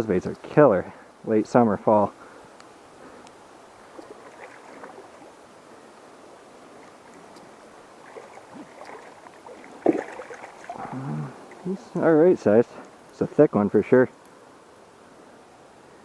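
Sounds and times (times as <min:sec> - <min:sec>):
river water running and splashing: 0:00.0 - 0:16.0.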